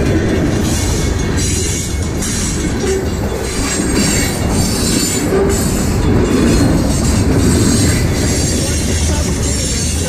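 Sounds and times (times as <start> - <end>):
train wheels rumbling on track: 0.0 - 10.0
high wheel squeal: 0.6 - 10.0.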